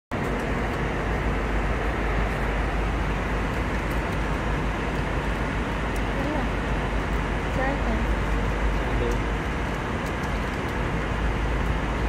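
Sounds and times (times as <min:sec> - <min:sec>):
jet airliner cabin noise: 0:00.1 - 0:12.0.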